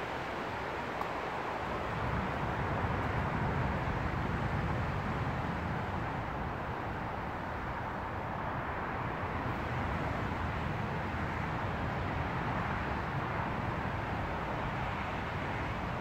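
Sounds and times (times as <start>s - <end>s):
outdoor ambient hiss and rumble: 0.0s - 16.0s.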